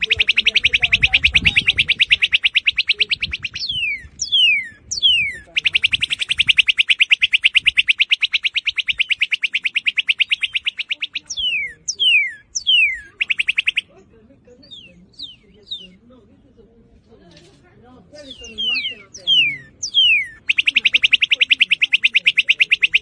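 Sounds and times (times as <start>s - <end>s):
bird whistles and trills: 0.0s - 14.0s, 14.6s - 16.1s, 18.2s - 23.0s.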